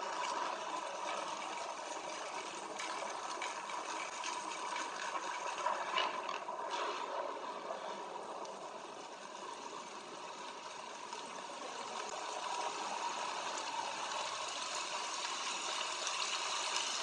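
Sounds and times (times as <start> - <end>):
continuous rushing noise: 0.0 - 17.0.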